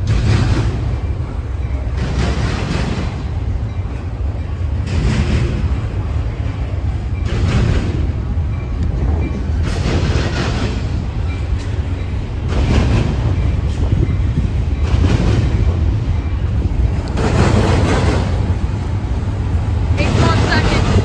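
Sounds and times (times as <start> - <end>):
train rumbling past: 0.0 - 21.0
wheels clattering over rail joints: 0.0 - 21.0.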